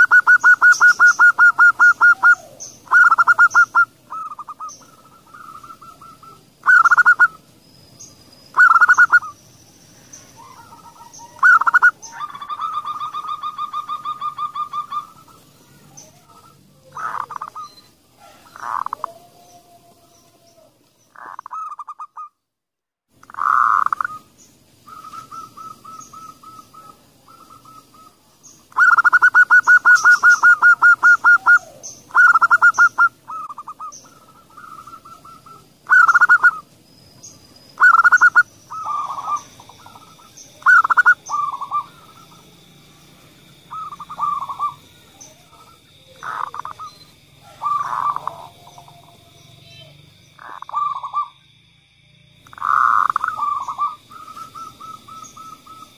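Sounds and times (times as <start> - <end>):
doves cooing: 0.0 - 7.5, 8.5 - 9.4, 10.0 - 22.3, 23.2 - 51.4, 52.4 - 55.9.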